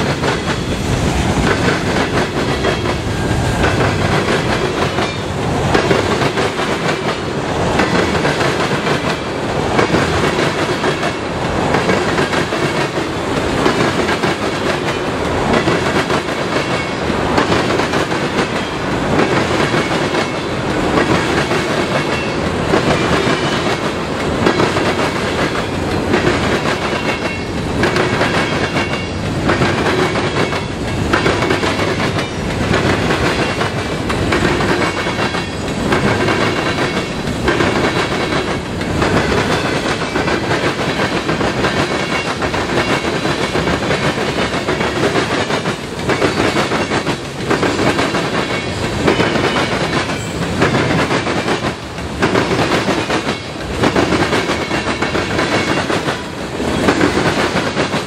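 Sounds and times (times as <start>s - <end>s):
clickety-clack over rail joints: 0.0s - 58.0s
train wheels rumbling on rail: 0.0s - 58.0s.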